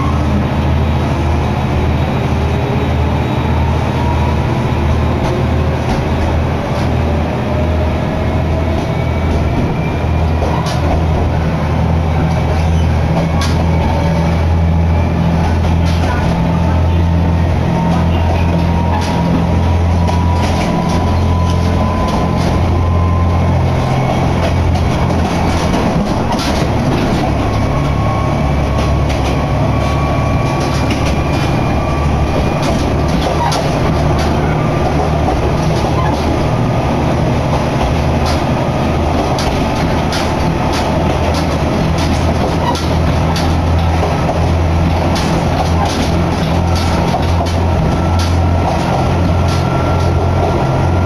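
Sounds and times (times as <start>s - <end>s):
train cabin drone: 0.0s - 51.0s.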